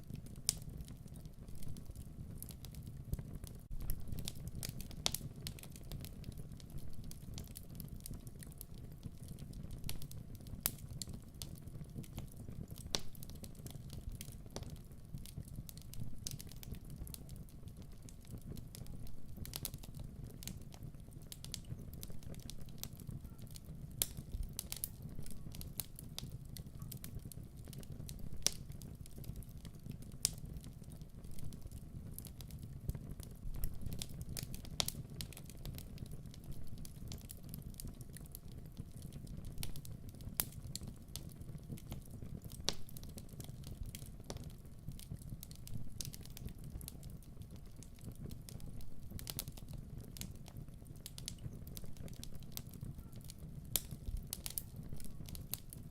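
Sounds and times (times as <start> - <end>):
fire crackling in fireplace: 0.0 - 55.9.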